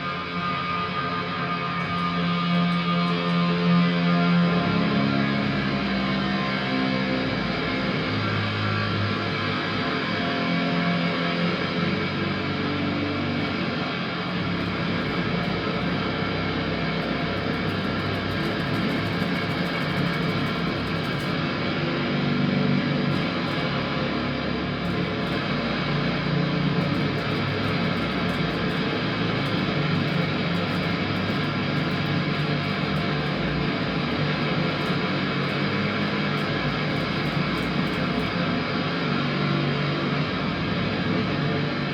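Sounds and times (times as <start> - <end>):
ambient electric guitar music: 0.0 - 41.9.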